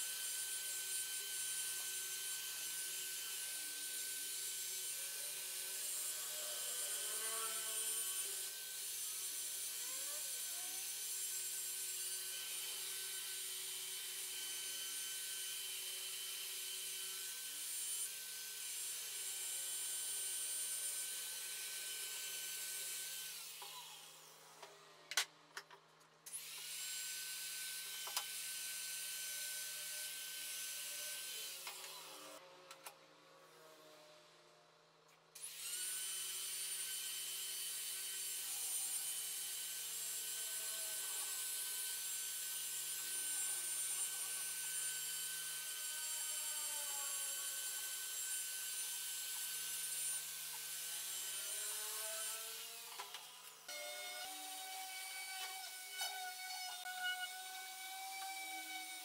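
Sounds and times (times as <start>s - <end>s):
rotary sander grinding wood: 0.0s - 24.3s, 35.4s - 59.0s.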